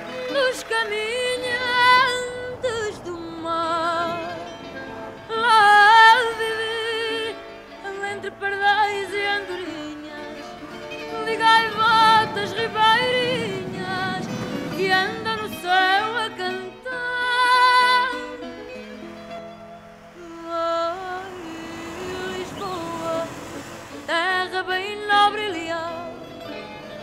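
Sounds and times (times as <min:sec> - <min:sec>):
woman singing with vibrato: 0:00.0 - 0:18.8, 0:20.1 - 0:26.6.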